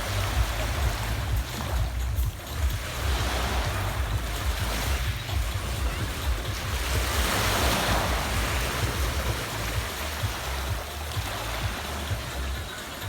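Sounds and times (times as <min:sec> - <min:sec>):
waves washing onto pebble beach: 0:00.0 - 0:13.0
wind buffeting microphone: 0:00.0 - 0:13.0.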